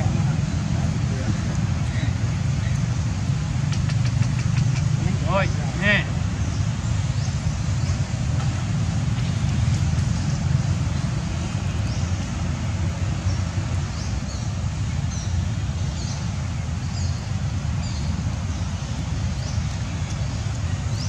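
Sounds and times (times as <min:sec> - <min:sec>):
low outdoor rumble with hiss: 0:00.0 - 0:21.0.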